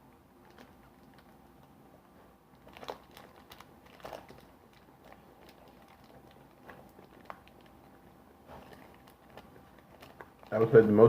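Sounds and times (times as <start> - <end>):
chewing and crunching candy bar: 0.4 - 11.0.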